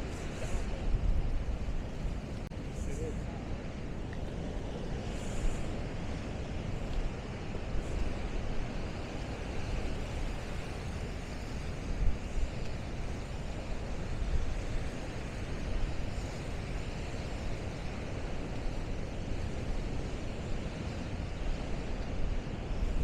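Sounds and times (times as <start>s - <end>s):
heavy surf: 0.0s - 23.0s
wind buffeting microphone: 0.0s - 23.0s.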